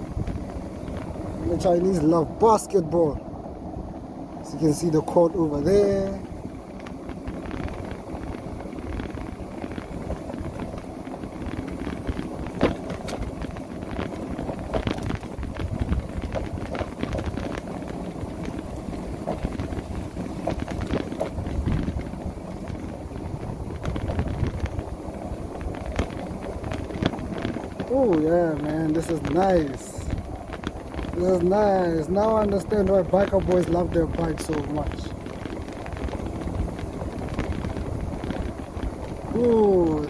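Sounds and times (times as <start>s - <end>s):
electric motorbike rumble: 0.0s - 40.0s
wind buffeting microphone: 0.0s - 40.0s.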